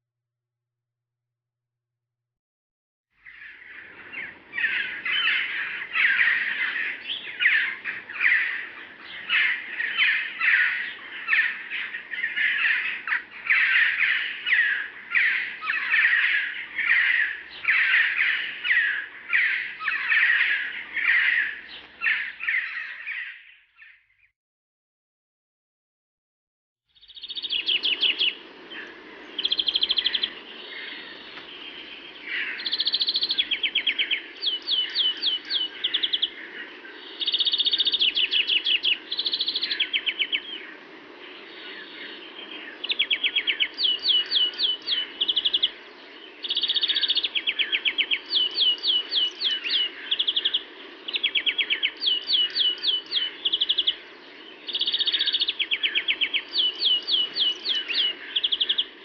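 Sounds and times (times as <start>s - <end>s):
small birds singing and chirping: 3.2s - 24.3s, 26.9s - 59.0s.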